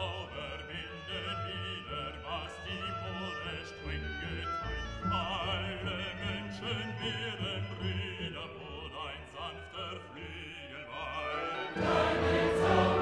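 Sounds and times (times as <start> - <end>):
classical music: 0.0 - 13.0
operatic voice singing: 0.0 - 13.0.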